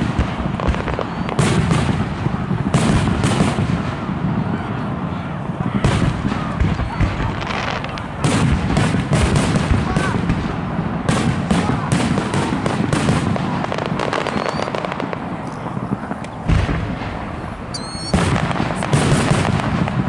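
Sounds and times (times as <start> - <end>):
fireworks booming and crackling: 0.0 - 20.0.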